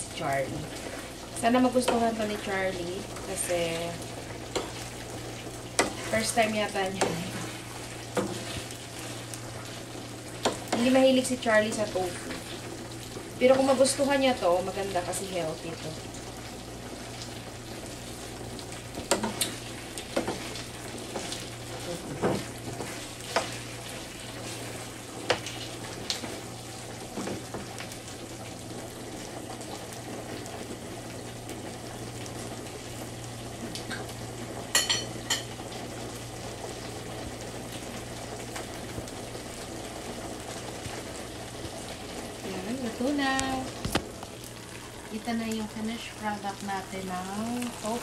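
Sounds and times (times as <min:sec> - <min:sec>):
sauce sizzling in frying pan: 0:00.0 - 0:48.0.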